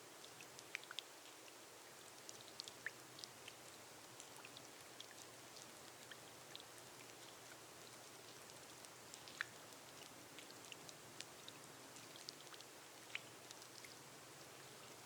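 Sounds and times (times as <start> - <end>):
rain hiss on glass roof: 0.0 - 15.0.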